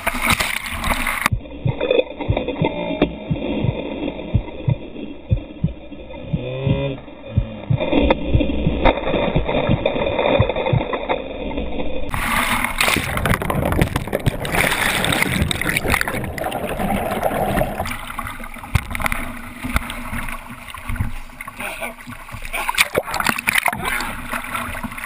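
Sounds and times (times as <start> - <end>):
river water gurgling and splashing: 0.0 - 25.0.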